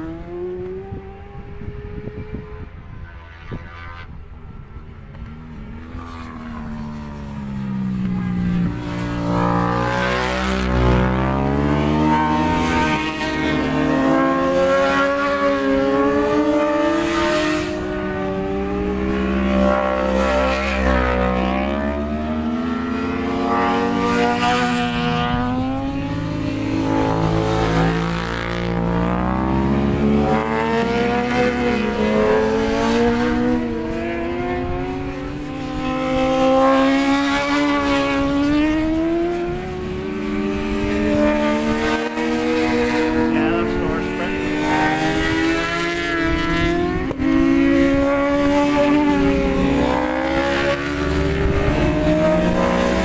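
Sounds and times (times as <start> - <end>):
low wind rumble: 0.0 - 53.0
racing motorcycles at full throttle: 0.0 - 53.0.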